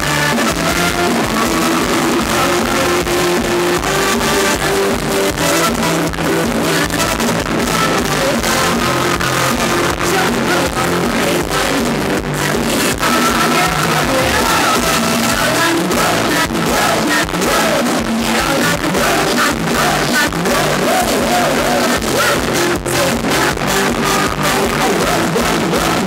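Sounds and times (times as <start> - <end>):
drumbeat: 0.0 - 26.0
live band playing dance music: 0.0 - 26.0
person singing: 0.0 - 26.0.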